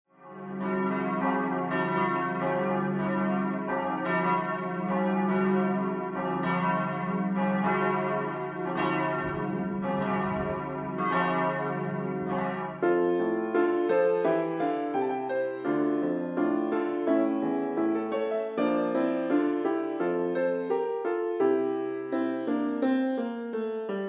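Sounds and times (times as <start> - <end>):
church bells pealing: 0.2 - 24.0.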